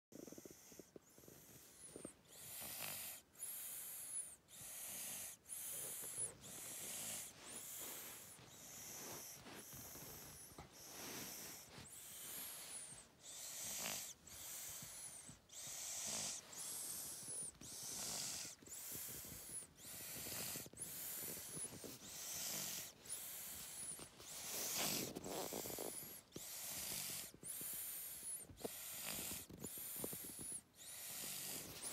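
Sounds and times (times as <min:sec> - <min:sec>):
rhythmic snoring: 0:00.1 - 0:31.9.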